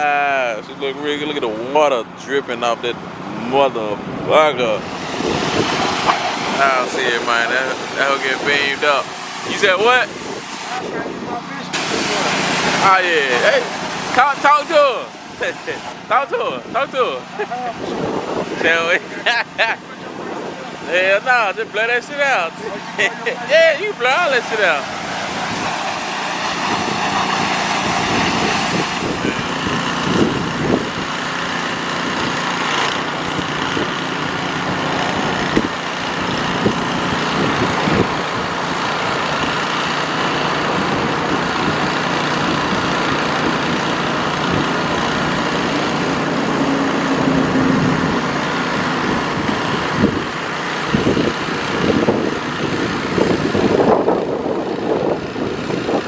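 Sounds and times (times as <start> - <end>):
air blower whirring: 2.9 - 56.0.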